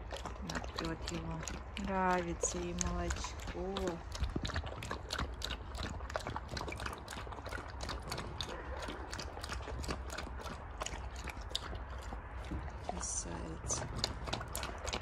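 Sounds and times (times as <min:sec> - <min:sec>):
animal lapping milk: 0:00.0 - 0:15.0.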